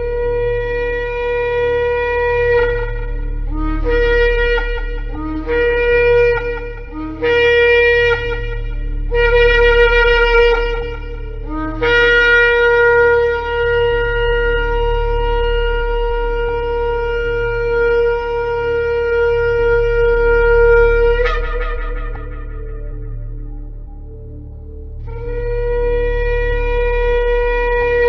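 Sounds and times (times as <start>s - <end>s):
shofar blasts: 0.0s - 24.4s, 25.0s - 28.0s.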